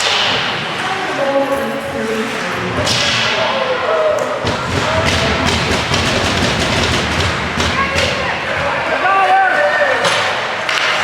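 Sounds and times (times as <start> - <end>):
arena noise: 0.0 - 11.0.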